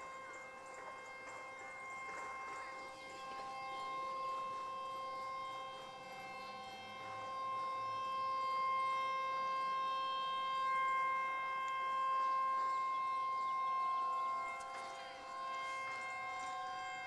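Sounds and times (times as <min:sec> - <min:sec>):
distant warning sirens: 0:00.0 - 0:17.0.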